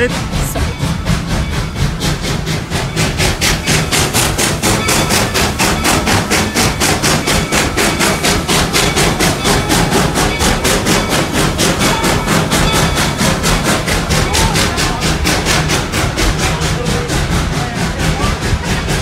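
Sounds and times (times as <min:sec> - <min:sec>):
steam locomotive chuffing: 0:00.0 - 0:19.0.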